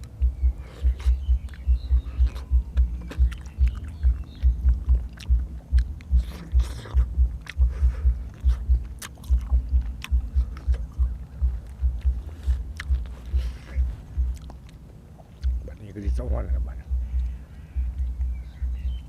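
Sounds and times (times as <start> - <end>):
wet mouth clicks: 0.0 - 15.7
chewing food: 0.0 - 15.9.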